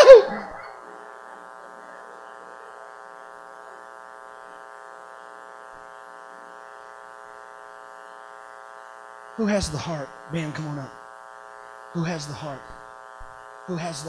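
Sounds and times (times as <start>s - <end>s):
electrical buzz: 0.0s - 14.0s.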